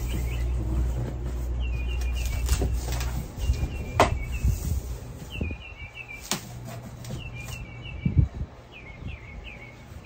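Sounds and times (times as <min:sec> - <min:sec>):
songbird chirping: 0:00.0 - 0:10.0.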